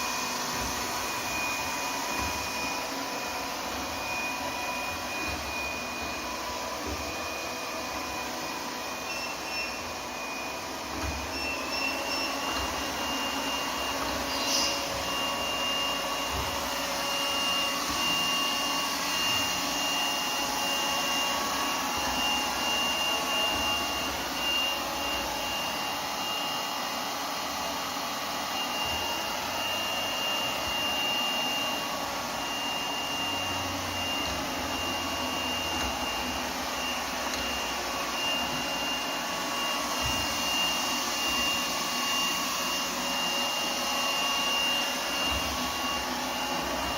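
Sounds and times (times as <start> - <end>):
robot vacuum cleaner running: 0.0 - 46.9.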